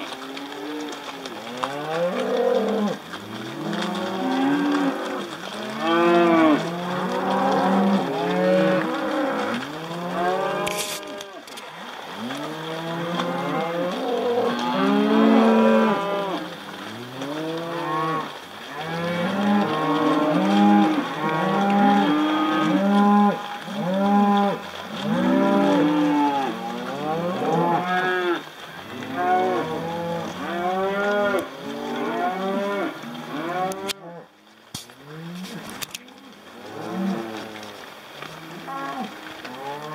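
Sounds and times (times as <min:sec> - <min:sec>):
cattle mooing: 0:00.0 - 0:34.3, 0:36.6 - 0:39.9.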